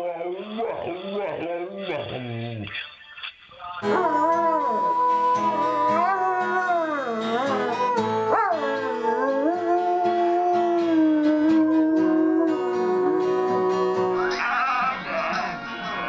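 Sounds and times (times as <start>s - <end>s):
dog howling: 0.0s - 2.6s, 3.8s - 15.0s.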